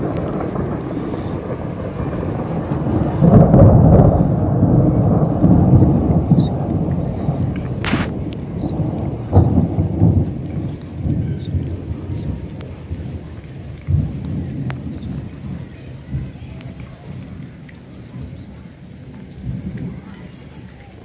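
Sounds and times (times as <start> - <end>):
rain falling: 0.0 - 21.0
rolling thunder: 0.0 - 21.0.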